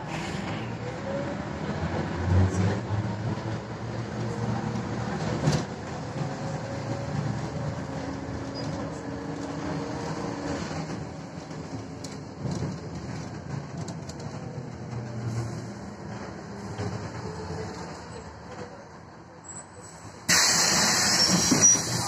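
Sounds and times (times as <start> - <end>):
bus diesel engine humming: 0.0 - 22.0.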